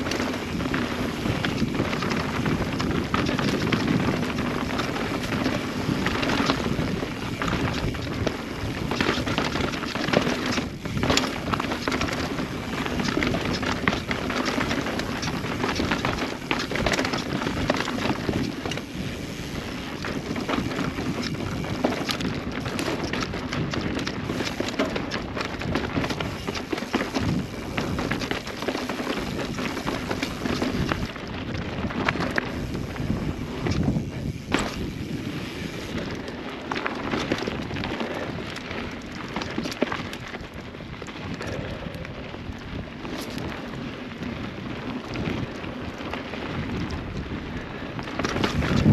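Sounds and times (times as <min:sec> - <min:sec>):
bike clicks and rattles: 0:00.0 - 0:48.9
wind rushing over microphone: 0:00.0 - 0:48.9.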